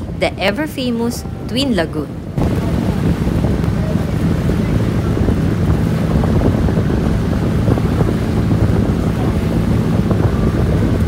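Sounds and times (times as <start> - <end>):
boat engine humming: 0.0 - 11.0
rushing water: 0.0 - 11.0
wind buffeting microphone: 0.0 - 11.0.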